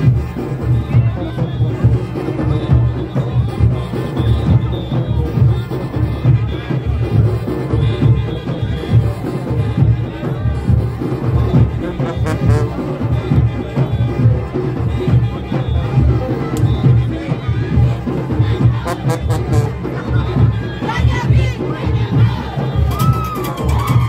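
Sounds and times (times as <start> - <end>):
brass horns blaring: 0.0 - 23.7
drums pounding: 0.0 - 24.0.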